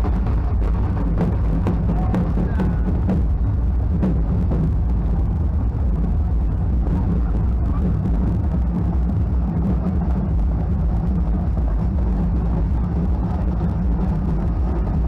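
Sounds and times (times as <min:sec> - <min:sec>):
street procession deep rumble: 0:00.0 - 0:15.0.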